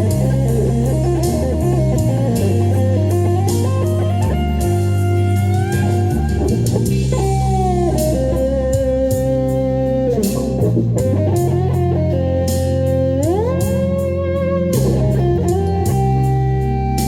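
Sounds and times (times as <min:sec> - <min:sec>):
backing track with drums and bass: 0:00.0 - 0:17.0
lead guitar bending notes: 0:00.0 - 0:17.0.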